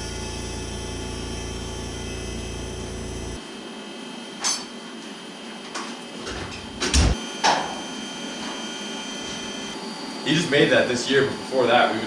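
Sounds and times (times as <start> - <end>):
steady machine hum: 0.0 - 4.4, 6.0 - 12.0.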